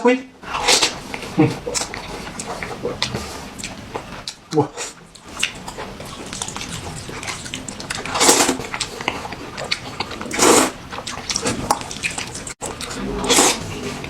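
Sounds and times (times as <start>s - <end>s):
big slurps or bites: 0.5s - 14.0s
wet mouth clicks and smacks chewing: 0.7s - 13.0s.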